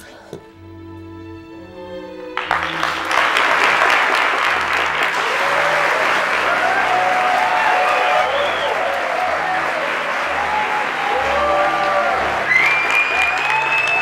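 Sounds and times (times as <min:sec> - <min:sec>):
soft sustained music: 0:00.0 - 0:14.0
audience applause: 0:02.3 - 0:14.0.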